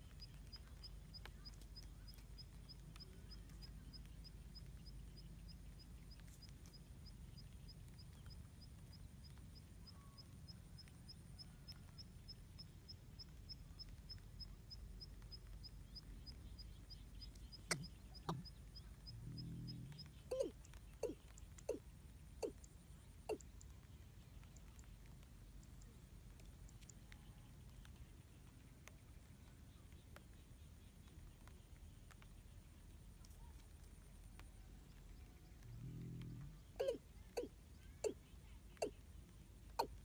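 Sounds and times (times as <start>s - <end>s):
faint high-pitched chirp: 0.0s - 21.8s, 22.4s - 26.0s, 26.6s - 40.0s
low outdoor rumble: 0.0s - 40.0s.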